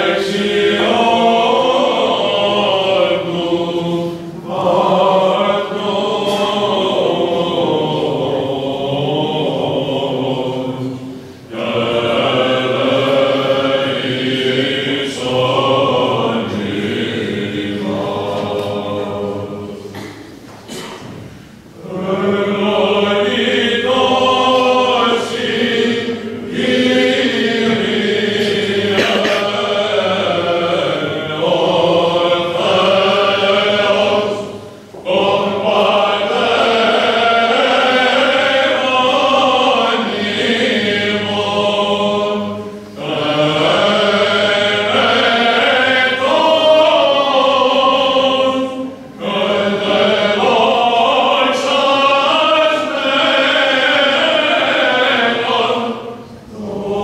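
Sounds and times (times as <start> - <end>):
voices chanting: 0.0 - 57.0.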